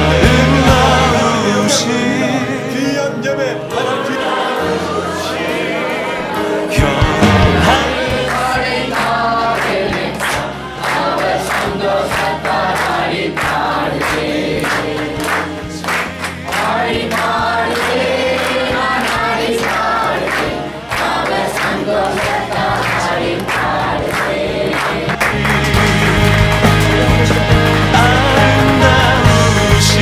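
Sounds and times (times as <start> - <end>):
congregation singing a hymn: 0.0 - 30.0
people clapping along: 4.9 - 30.0.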